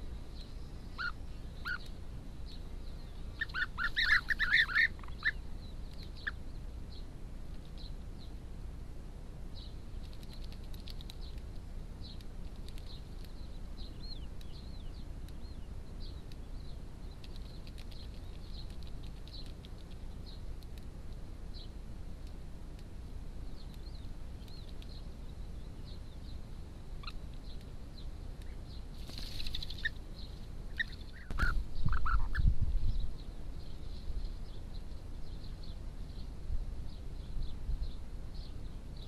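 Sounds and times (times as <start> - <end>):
birds calling and chirping: 0.0 - 8.4, 9.5 - 20.9, 23.4 - 39.0.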